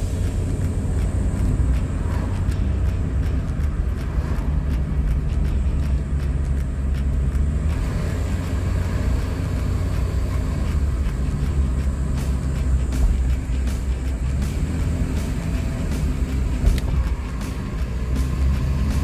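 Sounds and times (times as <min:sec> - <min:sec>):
car engine running: 0:00.0 - 0:19.0
road and tyre noise: 0:00.0 - 0:19.0.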